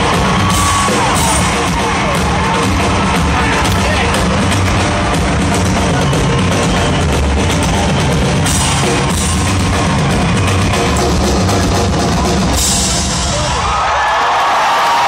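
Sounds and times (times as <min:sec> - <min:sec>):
drum solo on drum kit: 0:00.0 - 0:13.8.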